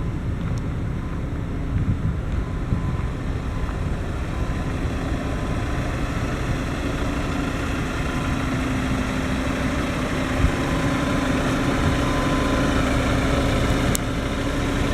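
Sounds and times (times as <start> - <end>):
truck diesel engine idling: 0.0 - 14.9.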